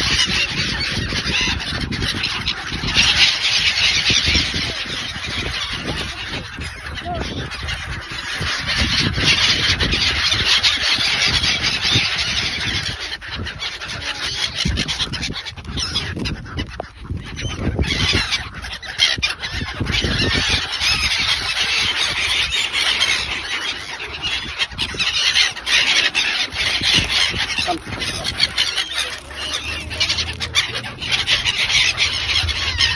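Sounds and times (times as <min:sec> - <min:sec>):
gulls calling: 0:00.0 - 0:32.9.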